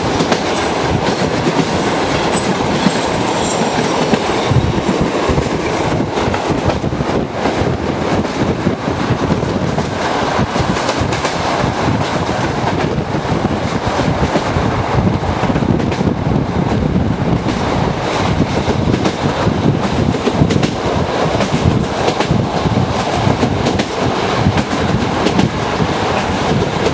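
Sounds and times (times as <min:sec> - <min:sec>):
train wheels clattering on track: 0:00.0 - 0:26.9.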